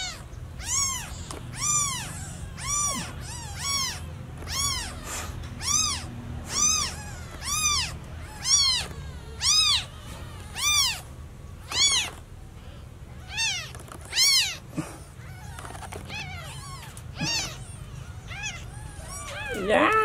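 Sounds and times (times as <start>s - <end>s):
kitten meowing: 0.0s - 12.2s, 13.2s - 20.0s.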